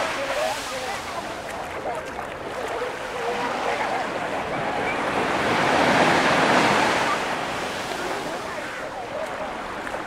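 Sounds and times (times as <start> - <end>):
waves breaking on sand beach: 0.0 - 10.0.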